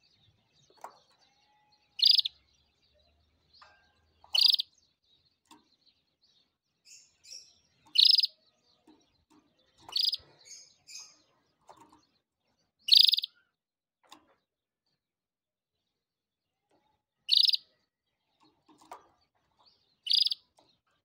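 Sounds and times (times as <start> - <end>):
canary chirping: 0.0 - 15.1, 15.7 - 21.0.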